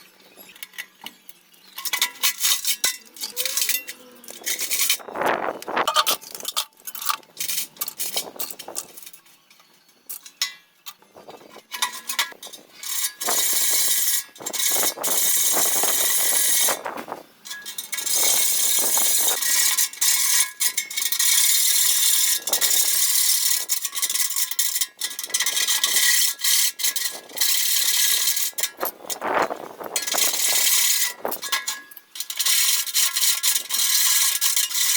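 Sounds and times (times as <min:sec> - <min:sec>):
tool clicks and scrapes: 0:00.4 - 0:16.9, 0:17.5 - 0:34.9.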